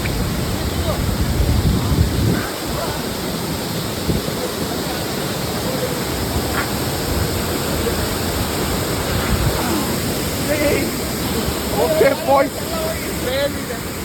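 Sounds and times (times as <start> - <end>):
waterfall roaring: 0.0 - 14.0
faint voices: 0.6 - 14.0.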